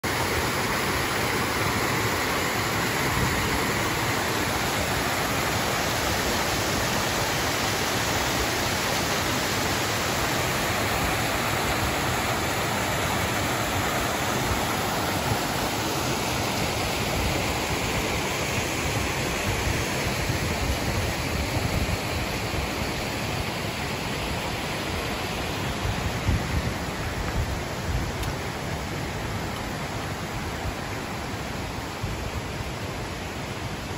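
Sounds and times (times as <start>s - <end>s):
stream cascading over rocks: 0.0s - 33.9s.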